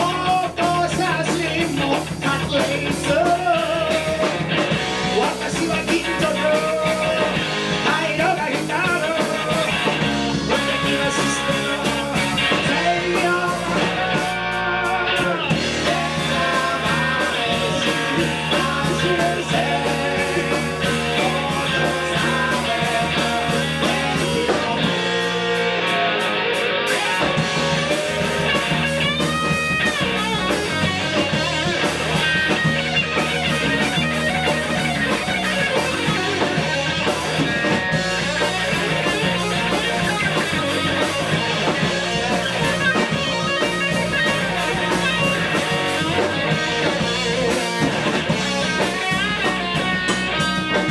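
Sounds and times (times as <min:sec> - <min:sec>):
bass guitar: 0:00.0 - 0:50.9
drums: 0:00.0 - 0:50.9
electric guitars: 0:00.0 - 0:50.9.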